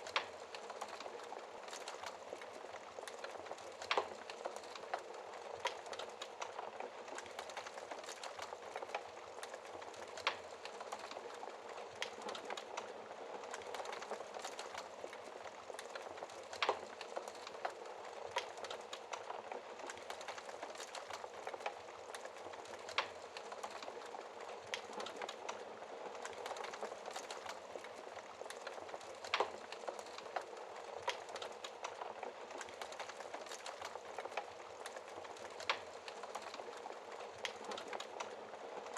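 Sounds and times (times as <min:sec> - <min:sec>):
logs burning in fireplace: 0:00.0 - 0:38.9.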